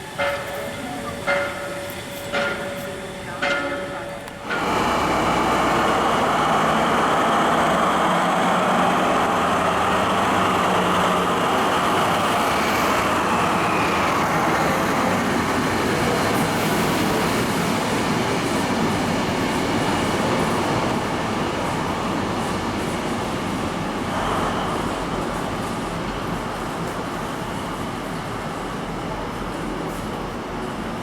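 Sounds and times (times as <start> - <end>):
train rail and engine noise: 0.0 - 31.0.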